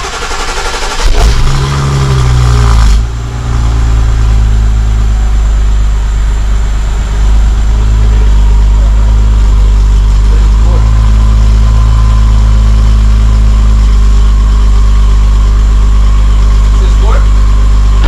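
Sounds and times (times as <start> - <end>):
car engine starting and idling: 0.0 - 18.0.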